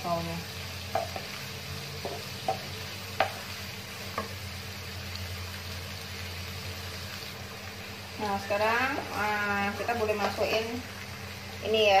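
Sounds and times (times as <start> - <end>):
meat sizzling: 0.0 - 12.0.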